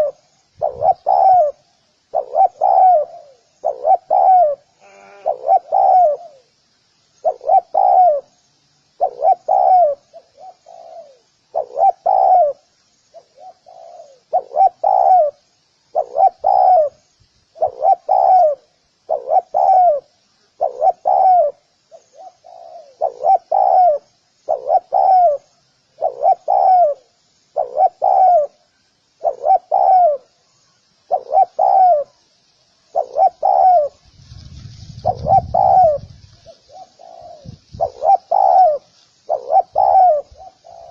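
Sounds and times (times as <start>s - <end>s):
dove cooing: 0.0s - 6.5s, 7.2s - 8.4s, 9.0s - 32.2s, 32.9s - 40.9s
faint high chirping: 0.0s - 40.9s.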